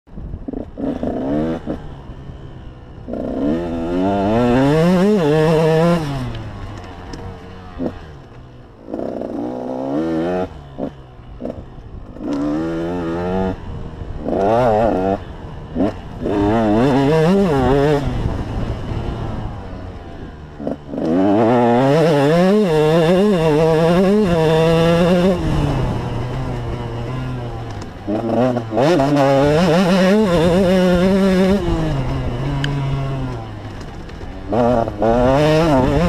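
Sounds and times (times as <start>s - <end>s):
motocross bike engine revving: 0.4s - 36.0s.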